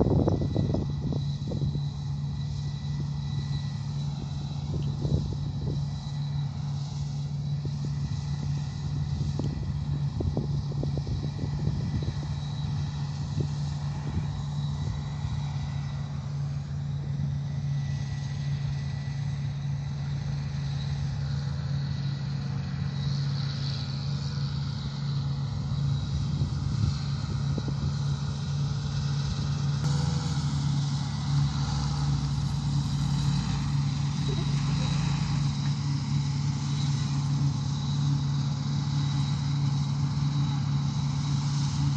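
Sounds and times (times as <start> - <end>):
farm machinery engines droning: 0.0 - 41.9.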